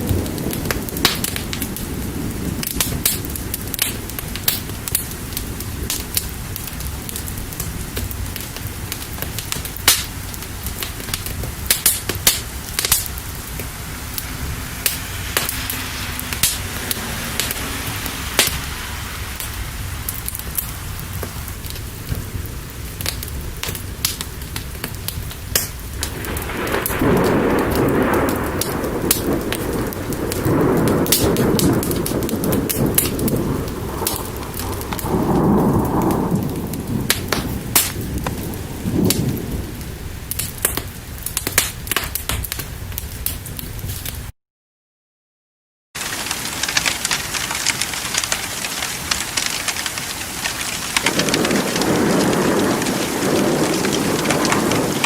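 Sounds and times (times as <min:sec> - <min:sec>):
thunder rolling: 0:00.0 - 0:42.6, 0:46.0 - 0:55.0
sharp crackles and pops: 0:00.0 - 0:44.3, 0:46.0 - 0:55.0
steady rain: 0:00.0 - 0:44.3, 0:46.0 - 0:55.0.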